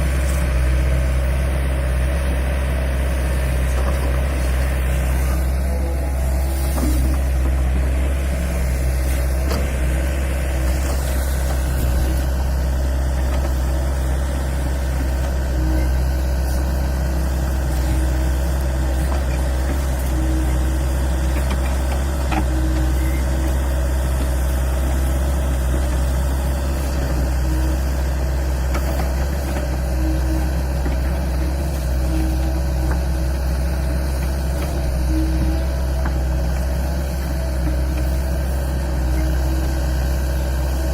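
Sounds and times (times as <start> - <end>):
excavator diesel engine idling: 0.0 - 40.9.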